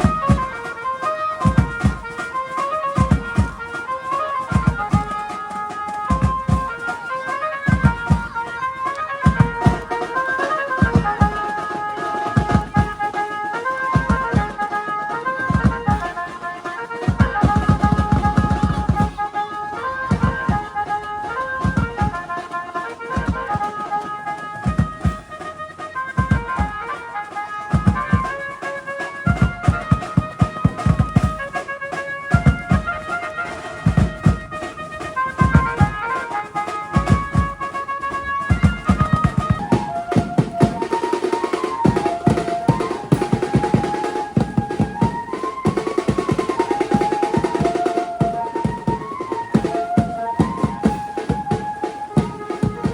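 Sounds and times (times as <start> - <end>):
driving drum beat: 0.0 - 52.9.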